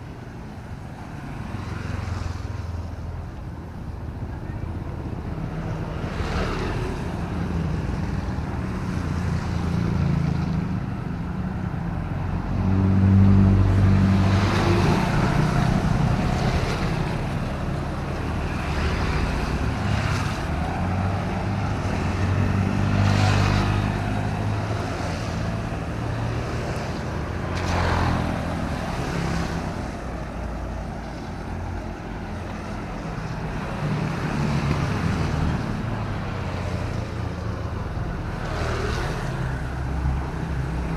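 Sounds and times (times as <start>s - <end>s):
traffic passing: 0.0s - 40.9s.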